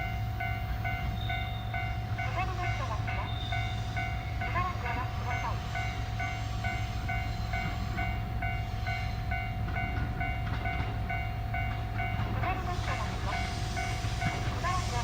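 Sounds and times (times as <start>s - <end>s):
electric train rumbling past: 0.0s - 15.0s
level-crossing warning bell: 0.0s - 15.0s.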